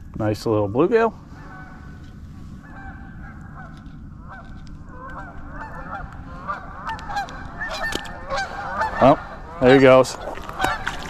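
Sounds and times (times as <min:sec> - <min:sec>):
geese honking: 0:01.3 - 0:11.0.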